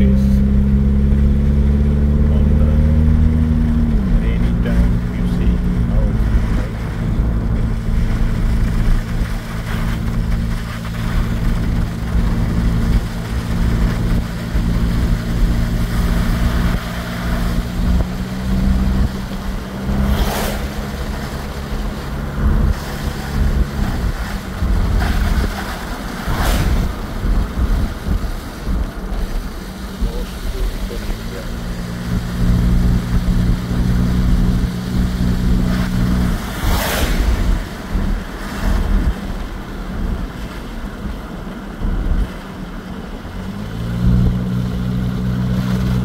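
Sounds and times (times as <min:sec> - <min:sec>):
car engine hum: 0:00.0 - 0:46.0
low road rumble: 0:00.0 - 0:46.0.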